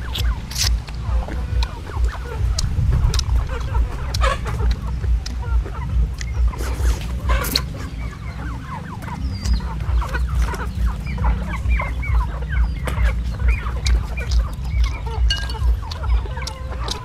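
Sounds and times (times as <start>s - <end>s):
chickens clucking: 0.0s - 17.0s
low regular pulsing: 0.0s - 17.0s.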